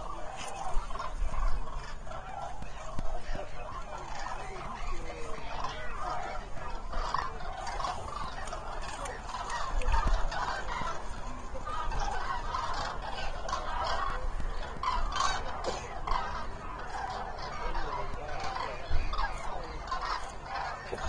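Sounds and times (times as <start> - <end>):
cranes trumpeting calls: 0.0 - 21.0.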